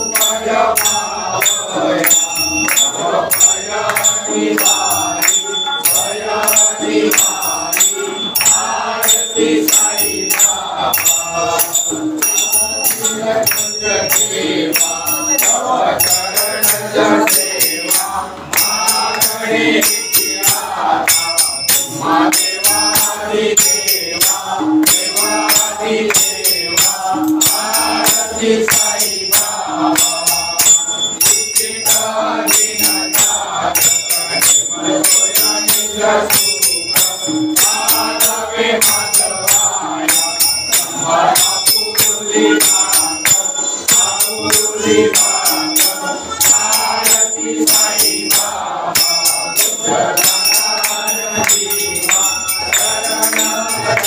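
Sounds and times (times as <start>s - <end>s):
group singing in chorus: 0.0s - 54.0s
metallic percussion beat: 0.0s - 54.0s.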